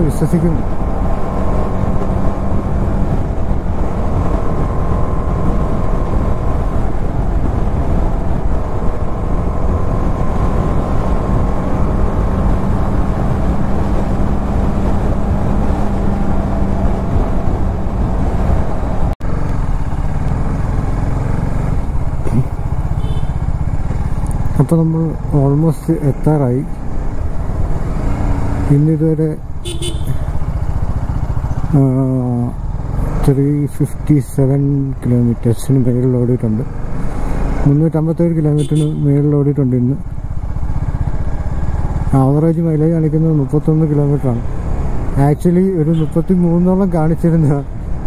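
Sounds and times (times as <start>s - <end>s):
low rush of riding noise: 0.0s - 48.0s
motorcycle engine running: 0.1s - 33.1s, 39.7s - 48.0s.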